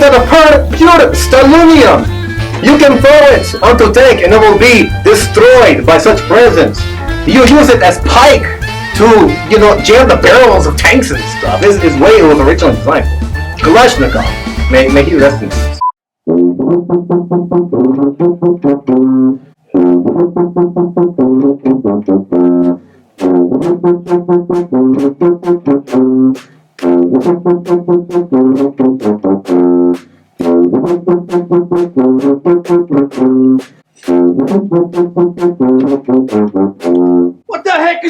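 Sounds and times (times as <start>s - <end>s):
staccato brass music: 0.0s - 37.5s.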